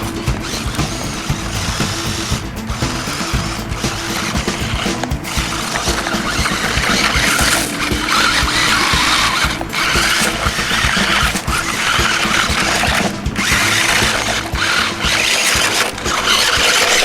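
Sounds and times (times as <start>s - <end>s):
electric motors whining: 0.0s - 17.0s
treads churning over ground: 0.0s - 17.0s.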